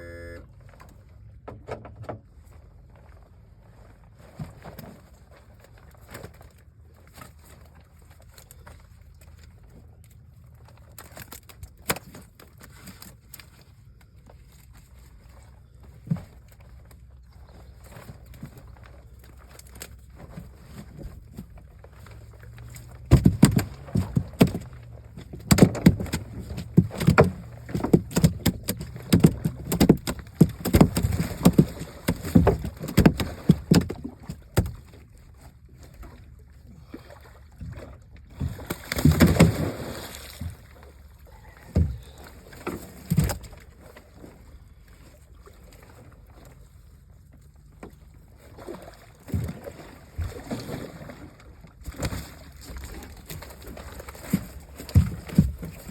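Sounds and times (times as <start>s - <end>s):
low steady rumble: 0.0s - 1.5s, 2.3s - 50.5s
knocks and thumps in a boat: 0.0s - 55.9s.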